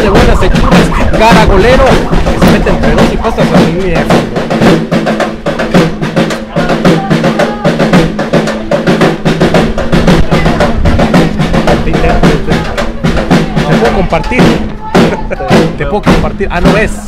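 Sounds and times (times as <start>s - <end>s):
drums beating steady rhythm: 0.0s - 17.0s.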